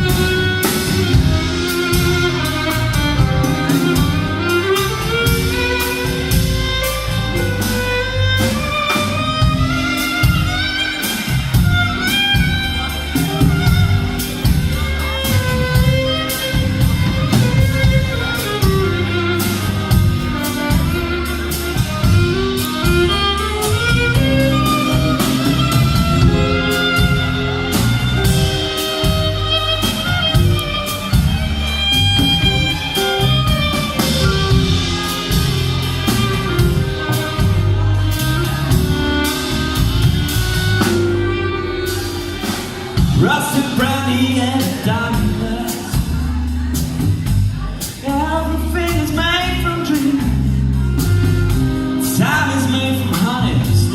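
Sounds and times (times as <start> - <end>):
violin melody with vibrato: 0.0 - 46.8, 47.6 - 53.9
bass line: 0.0 - 53.9
drum beats: 0.0 - 53.9
fiddle: 0.0 - 53.9
strummed guitar chords: 0.0 - 53.9.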